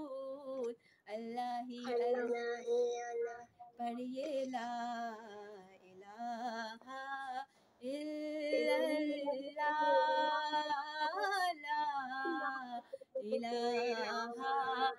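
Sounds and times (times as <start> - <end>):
woman singing unaccompanied: 0.0 - 2.9, 3.7 - 14.9.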